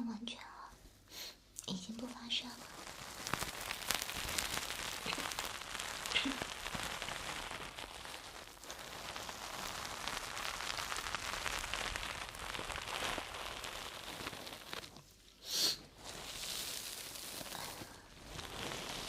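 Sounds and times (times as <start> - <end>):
high hiss: 1.1 - 19.0
close crackling and rustling: 1.6 - 19.0.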